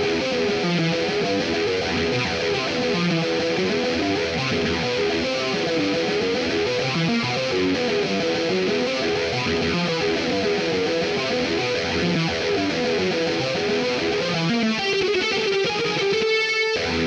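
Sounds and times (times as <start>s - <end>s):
distorted electric guitar melody: 0.0s - 17.0s.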